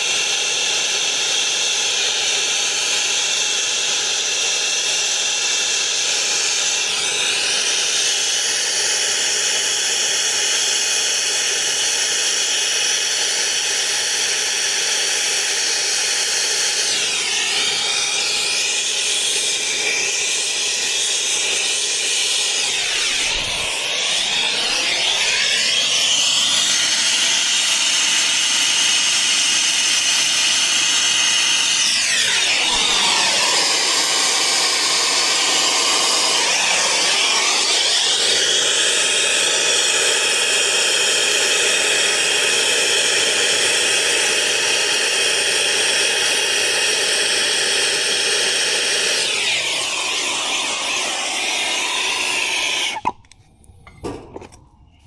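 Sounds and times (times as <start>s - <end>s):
torch flame hissing: 0.2s - 53.4s.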